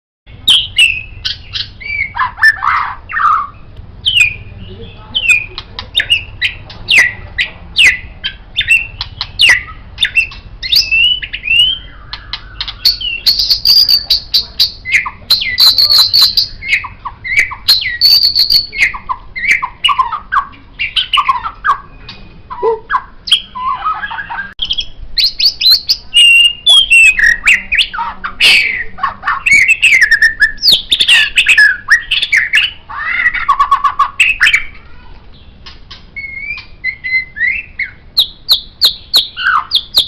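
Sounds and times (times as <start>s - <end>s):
bird singing whistled notes: 0.3s - 34.7s, 36.2s - 40.0s.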